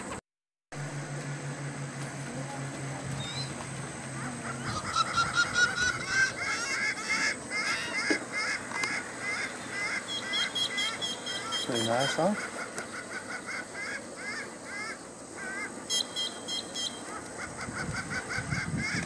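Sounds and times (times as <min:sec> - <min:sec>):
low steady hum: 0:00.0 - 0:19.0
flock of birds calling: 0:02.3 - 0:19.0.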